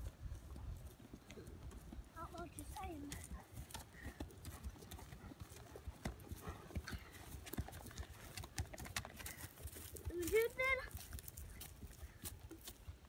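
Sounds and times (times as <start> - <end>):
hoofbeats on grass: 0.0 - 13.0.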